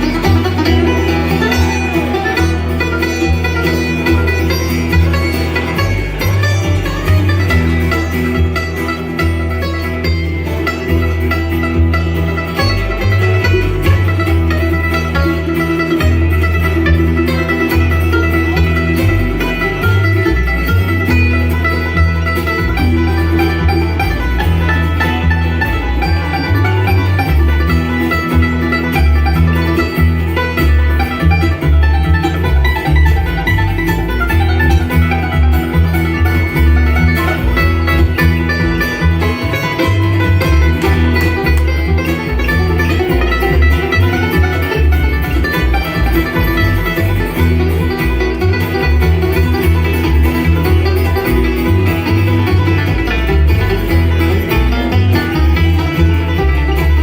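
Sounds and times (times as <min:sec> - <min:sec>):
bluegrass band playing: 0:00.0 - 0:57.0.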